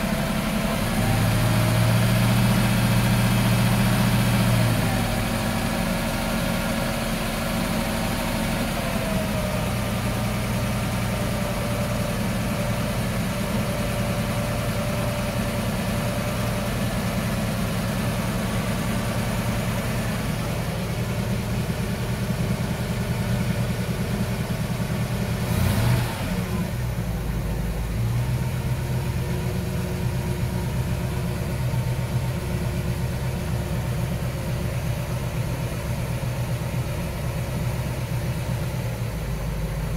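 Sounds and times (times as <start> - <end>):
boat engine idling: 0.0 - 25.7, 26.7 - 39.9.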